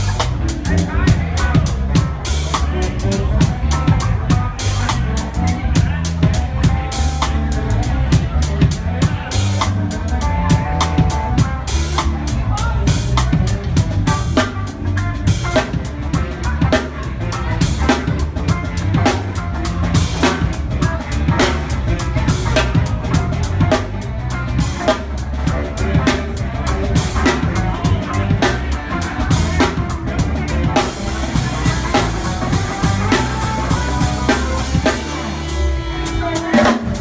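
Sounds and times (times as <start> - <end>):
live rock band playing: 0.0 - 37.0
loud drum beat: 0.0 - 37.0.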